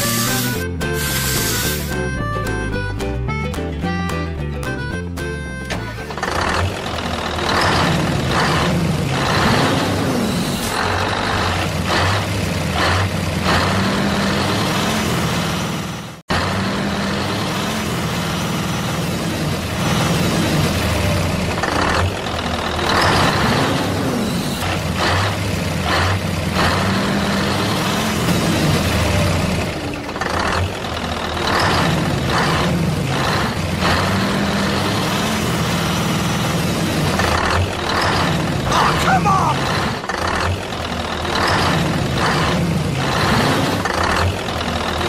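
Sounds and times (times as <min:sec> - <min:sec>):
heavy truck engine running: 0:00.0 - 0:45.0.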